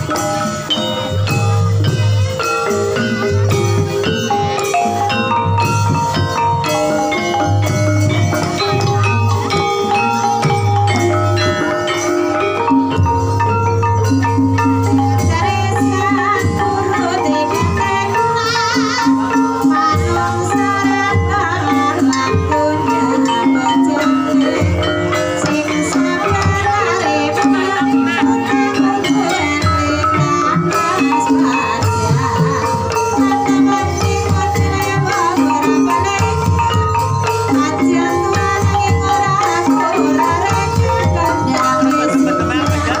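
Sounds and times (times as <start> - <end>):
gongs ringing a melody: 0.0 - 43.0.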